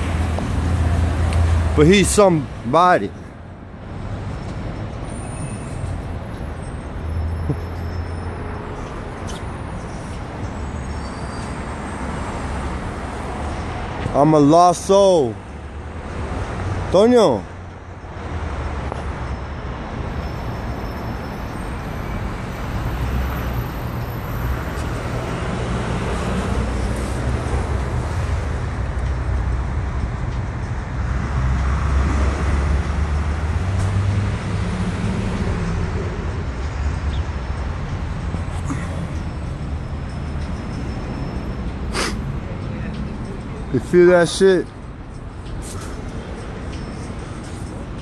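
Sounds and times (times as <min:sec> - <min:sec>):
road traffic: 0:00.0 - 0:48.0.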